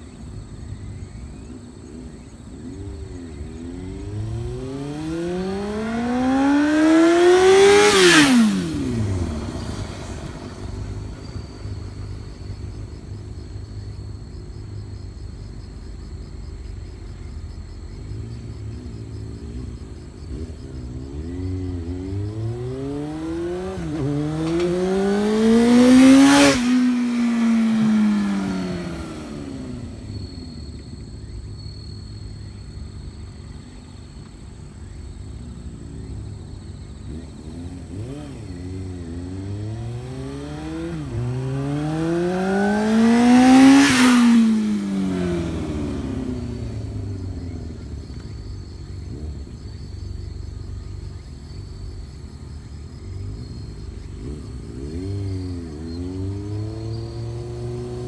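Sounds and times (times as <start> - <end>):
motorcycle engine rumbling and revving: 0.0 - 58.0.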